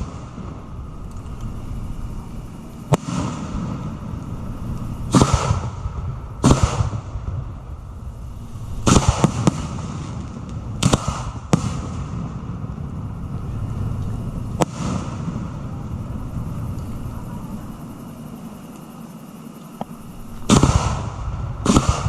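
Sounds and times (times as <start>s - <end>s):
fireworks bangs with hiss: 0.0s - 2.2s, 2.8s - 17.8s, 19.7s - 22.0s.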